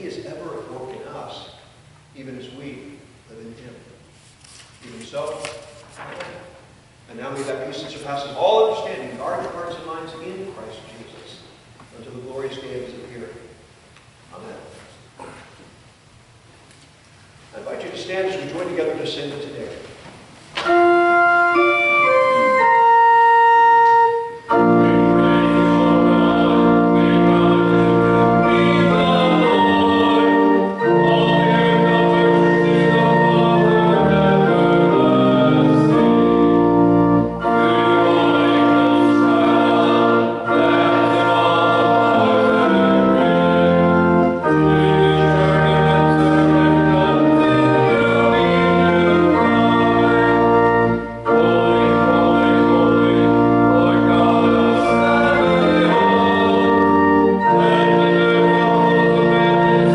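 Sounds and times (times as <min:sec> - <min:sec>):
church organ playing a hymn: 0:00.0 - 0:01.6, 0:04.8 - 0:13.4, 0:17.6 - 0:19.9, 0:20.6 - 0:59.9.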